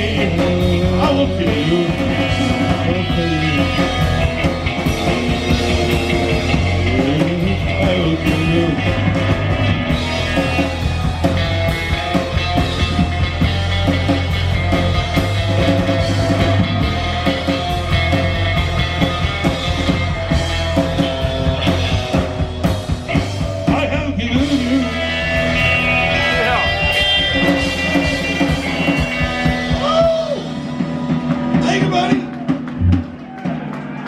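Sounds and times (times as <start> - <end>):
bass guitar: 0.0 - 34.0
drum kit: 0.0 - 34.0
electric guitar: 0.0 - 34.0.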